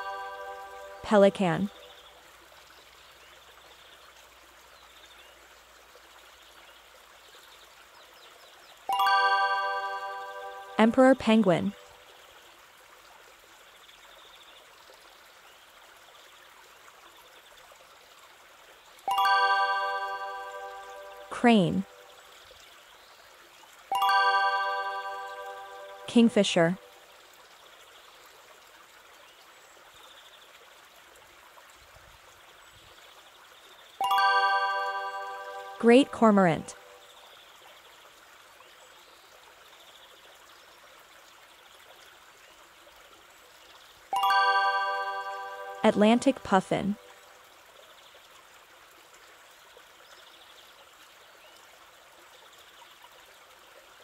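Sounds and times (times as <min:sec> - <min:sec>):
faint running water: 0:00.0 - 0:54.0.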